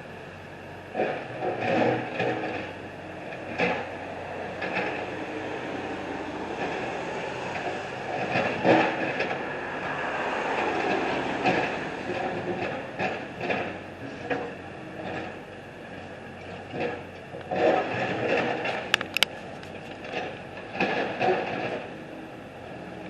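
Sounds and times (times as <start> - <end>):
machinery engine hum: 0.0 - 23.0.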